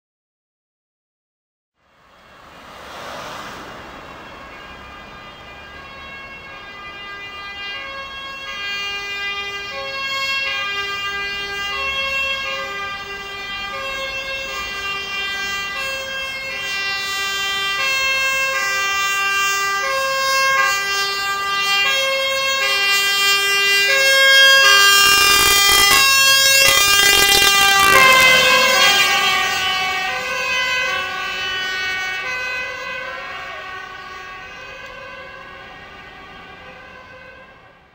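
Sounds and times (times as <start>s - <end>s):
fire truck two-tone horn: 1.8s - 37.9s
truck engine and road noise: 1.8s - 37.9s.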